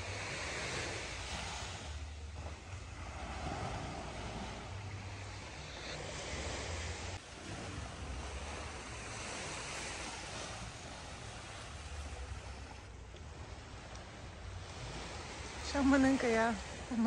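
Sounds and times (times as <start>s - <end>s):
surf rushing on shore: 0.0s - 17.0s.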